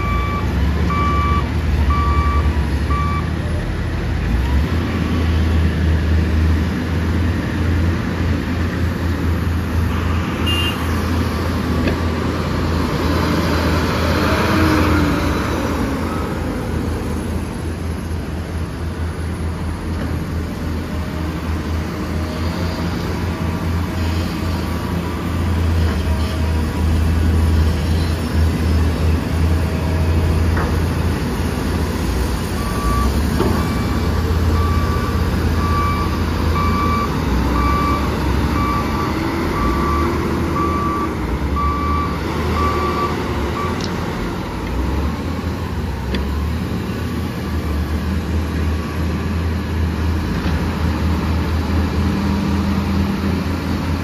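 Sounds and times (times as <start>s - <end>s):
diesel truck engines rumbling: 0.0s - 54.0s.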